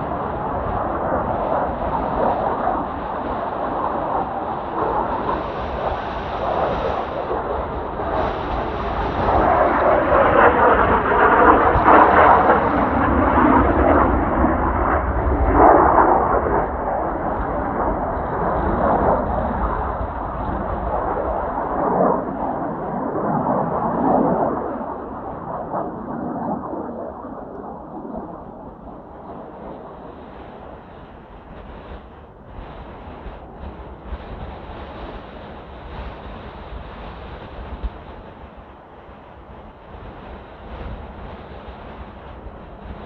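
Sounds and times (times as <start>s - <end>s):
jet aircraft roar: 0.0s - 43.0s
wind buffeting microphone: 0.0s - 43.0s.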